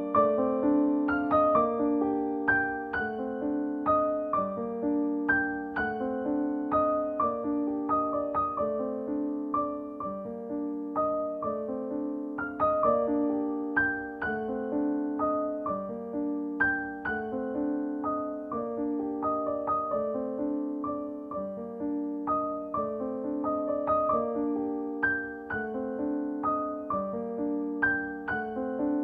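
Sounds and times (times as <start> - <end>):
gentle piano melody: 0.0 - 29.0.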